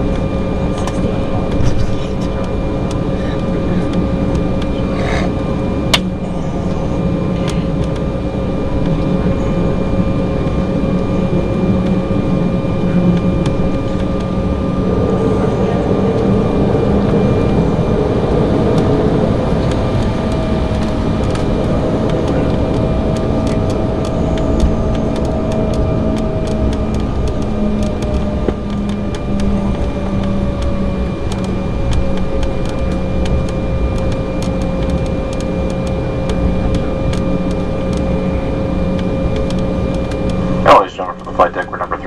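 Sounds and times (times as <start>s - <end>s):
jet engines rumbling in cabin: 0.0s - 42.0s.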